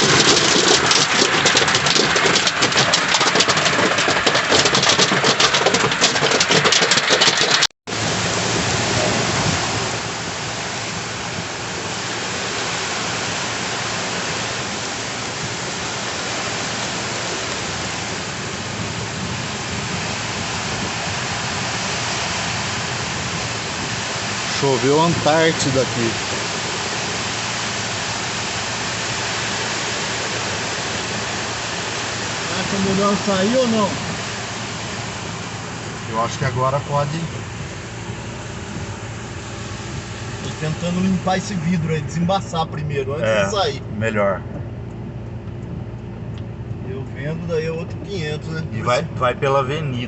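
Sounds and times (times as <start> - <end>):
heavy rain on car roof: 0.0 - 43.8, 44.6 - 50.0.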